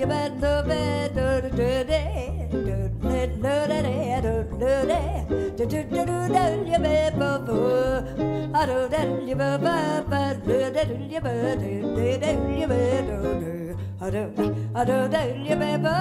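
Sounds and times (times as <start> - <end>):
acoustic guitar: 0.0 - 16.0
double bass: 0.0 - 16.0
woman singing: 0.0 - 16.0.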